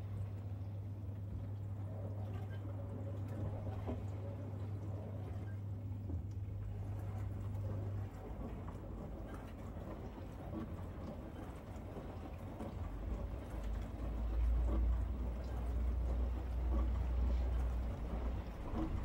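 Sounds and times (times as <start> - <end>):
dishwasher low hum: 0.0 - 19.0
dishwasher water sloshing and spraying: 1.9 - 19.0.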